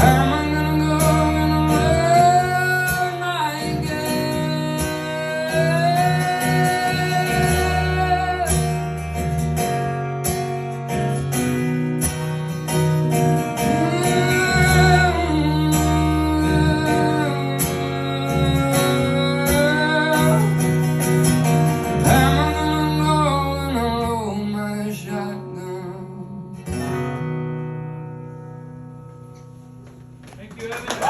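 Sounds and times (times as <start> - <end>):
electric guitar: 0.0 - 30.3.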